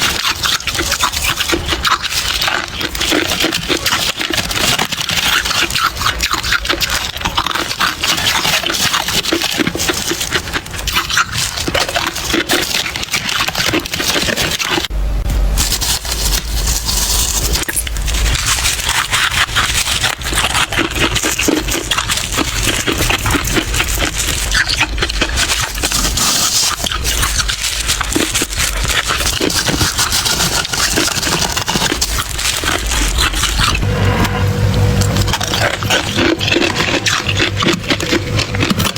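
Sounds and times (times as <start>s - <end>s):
freezer frost crunching: 0.0s - 38.9s.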